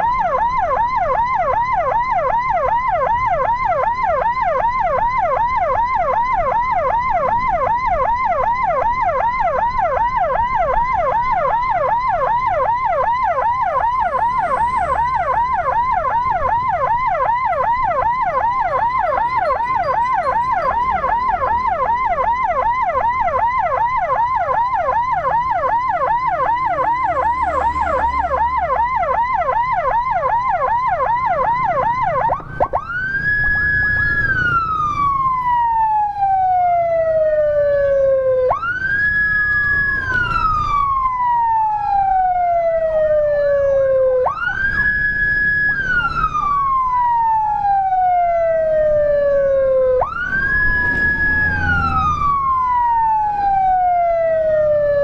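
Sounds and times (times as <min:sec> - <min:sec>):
emergency siren yelp: 0:00.0 - 0:55.0
siren wail: 0:00.0 - 0:55.0.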